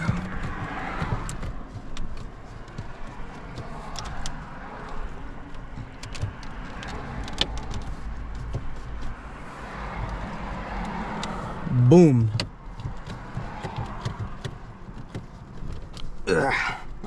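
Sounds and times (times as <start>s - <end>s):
low rumble inside car: 0.0s - 17.0s.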